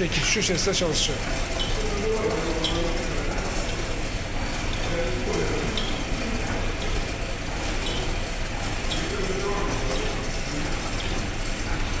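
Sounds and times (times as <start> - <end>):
machine mechanical whirr: 0.0 - 12.0.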